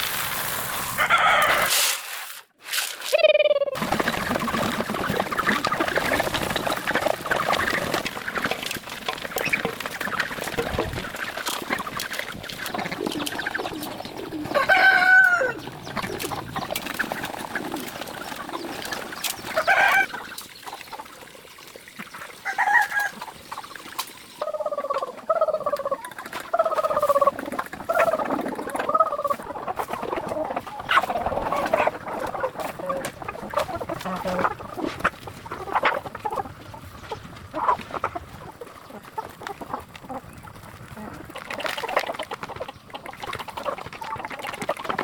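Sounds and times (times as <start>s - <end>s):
chickens clucking and squawking: 0.9s - 1.8s, 3.2s - 45.0s.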